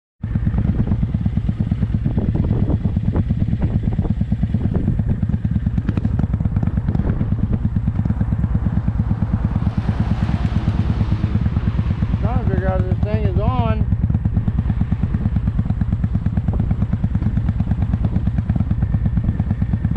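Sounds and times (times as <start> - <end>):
motorcycle engine running: 0.2 - 19.9
wind noise rushing: 0.6 - 19.5.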